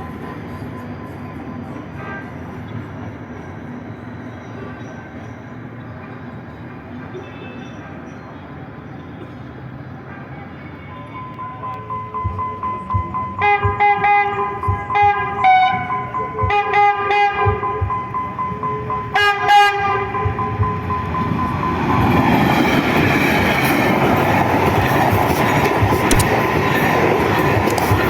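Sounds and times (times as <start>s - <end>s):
train passing: 0.0s - 7.2s, 7.9s - 28.0s.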